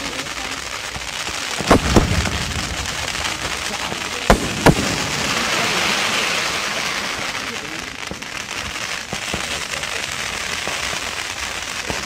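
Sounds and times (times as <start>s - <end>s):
fireworks bangs: 0.0s - 12.0s
steady hiss: 0.0s - 12.0s.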